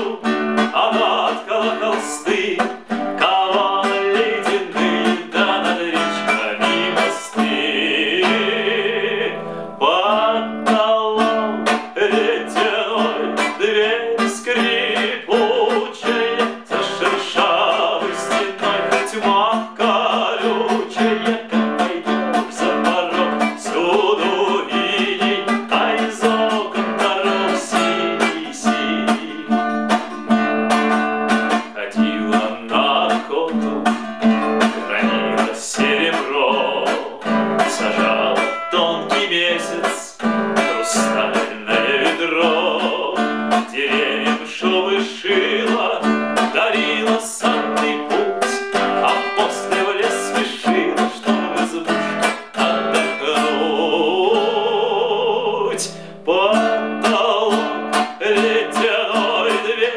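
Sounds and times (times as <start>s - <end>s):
classical guitar chords: 0.0s - 59.9s
man singing: 0.0s - 59.9s.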